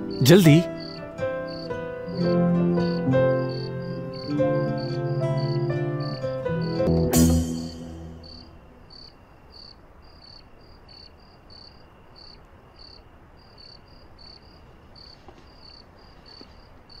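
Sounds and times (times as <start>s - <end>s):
crickets chirping: 0.0s - 17.0s
faint steady hiss: 0.0s - 17.0s.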